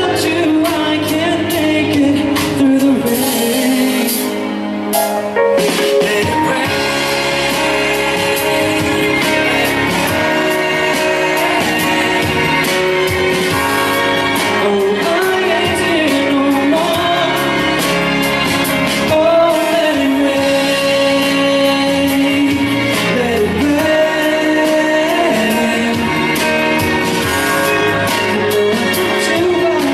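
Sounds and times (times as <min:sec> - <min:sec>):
amplified backing track with beat: 0:00.0 - 0:29.9
person singing live pop song: 0:00.0 - 0:29.9.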